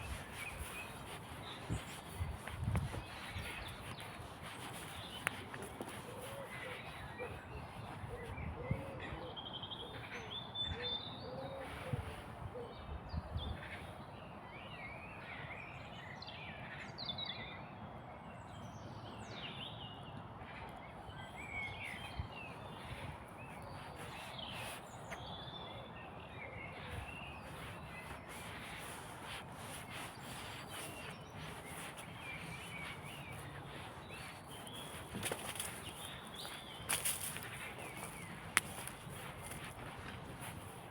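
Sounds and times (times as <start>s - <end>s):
songbirds chirping and warbling: 0.0s - 40.9s.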